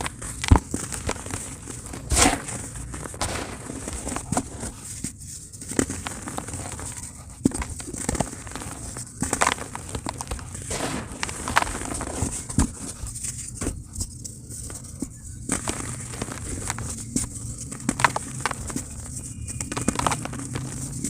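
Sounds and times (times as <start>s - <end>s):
dry cement crumbling: 0.0s - 21.0s.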